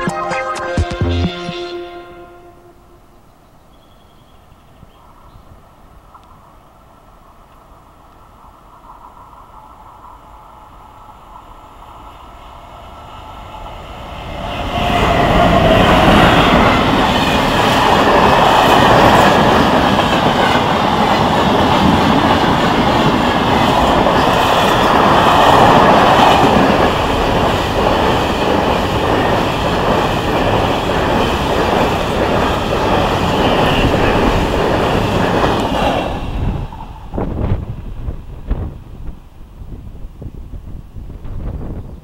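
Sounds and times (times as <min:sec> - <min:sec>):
freight train passing: 0:00.0 - 0:42.0
wheels rumbling on rails: 0:03.9 - 0:42.0.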